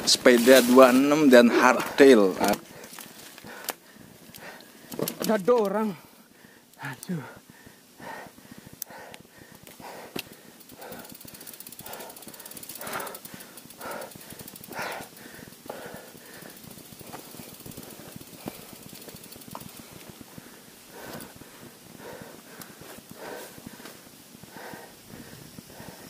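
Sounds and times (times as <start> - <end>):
heavy breathing: 2.6 - 5.0, 6.0 - 26.0.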